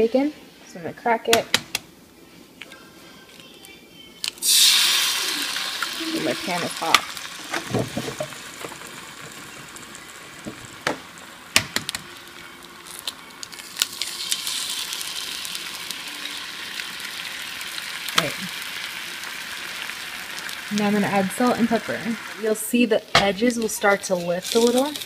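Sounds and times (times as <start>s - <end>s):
eggs sizzling in a frying pan: 4.2s - 25.0s.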